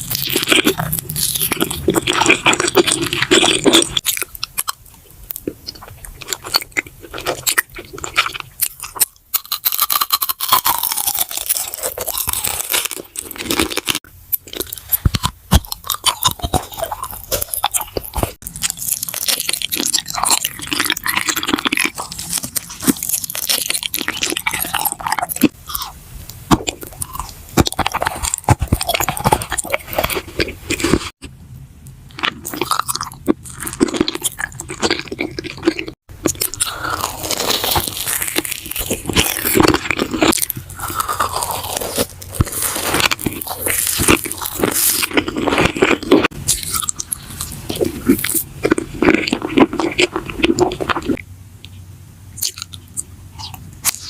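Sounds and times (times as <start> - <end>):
crunching and chewing: 0.0 - 31.4, 32.1 - 51.8, 52.4 - 54.0.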